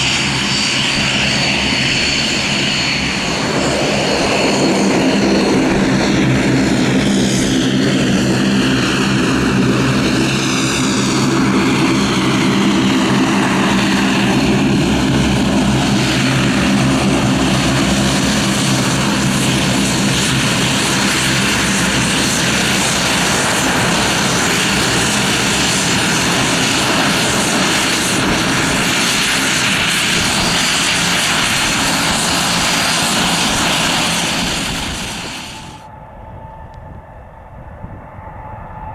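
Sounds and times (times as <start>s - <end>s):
turbine whine: 0.0s - 38.9s
turboprop engine droning: 0.0s - 38.9s.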